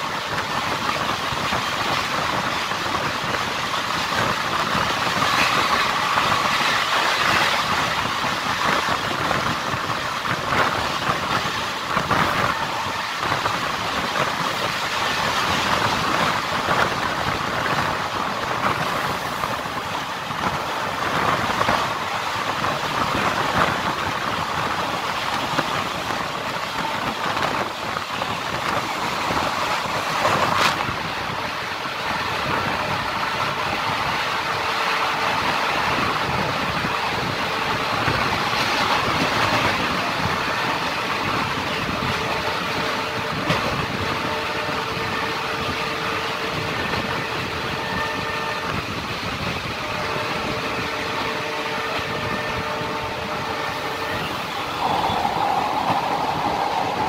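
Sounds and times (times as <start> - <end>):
train wheels on rail: 0.0 - 57.0.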